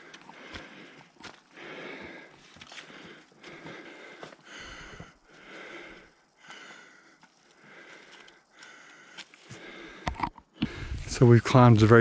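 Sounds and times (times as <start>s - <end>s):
man breathing hard: 0.0s - 11.1s.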